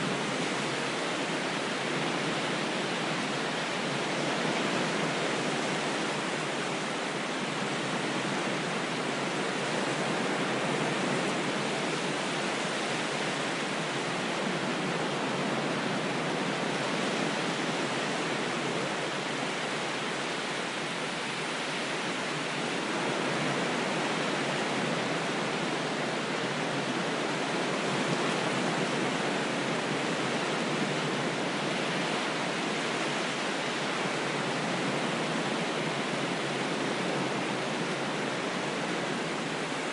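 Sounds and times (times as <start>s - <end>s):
steady rushing water noise: 0.0s - 39.9s.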